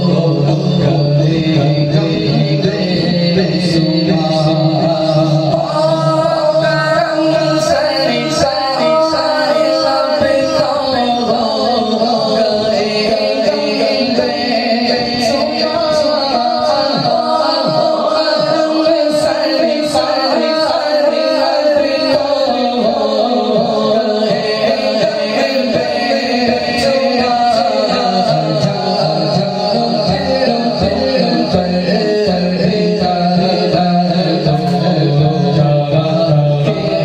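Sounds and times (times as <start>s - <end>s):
held steady drone tone: 0.0s - 37.0s
man singing devotional poem: 0.0s - 37.0s.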